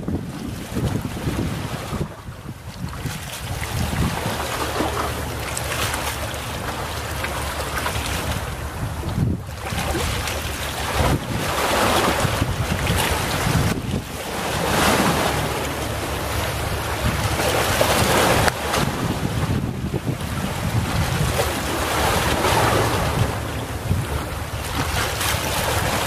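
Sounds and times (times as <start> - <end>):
sea waves washing onto shore: 0.0 - 26.0
wind rumble on microphone: 0.0 - 26.0.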